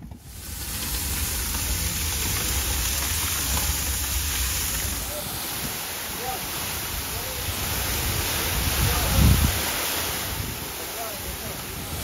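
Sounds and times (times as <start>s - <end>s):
large fire roaring: 0.0s - 12.0s.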